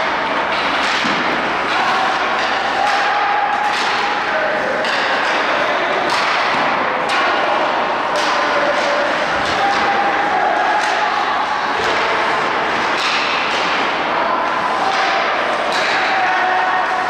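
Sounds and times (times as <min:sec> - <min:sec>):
hockey sticks and puck knocks: 0:00.0 - 0:17.0.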